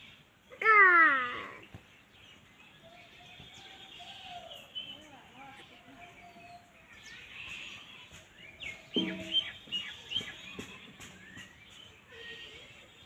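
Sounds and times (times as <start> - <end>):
birds chirping: 0.0 - 13.0
countryside background noise: 0.0 - 13.0.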